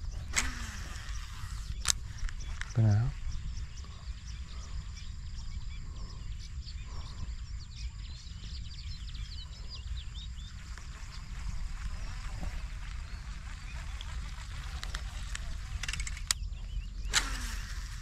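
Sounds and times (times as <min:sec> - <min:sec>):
birds chirping: 0:00.0 - 0:18.0
low rumble: 0:00.0 - 0:18.0.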